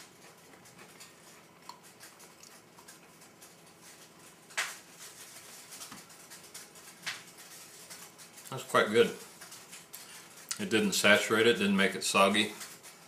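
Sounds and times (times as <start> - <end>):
small crackles and ticks: 0.0 - 13.0.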